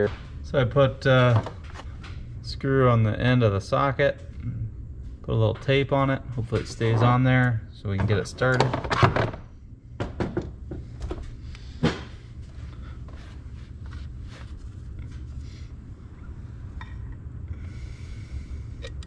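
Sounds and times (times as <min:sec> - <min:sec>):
low hum: 0:00.0 - 0:08.5, 0:09.3 - 0:19.0.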